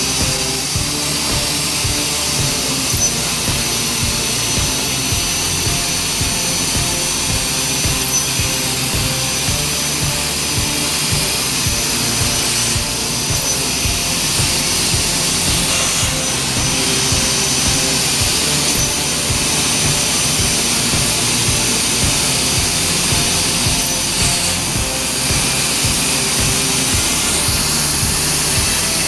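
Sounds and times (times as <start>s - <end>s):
plasma torch hissing: 0.0s - 29.0s.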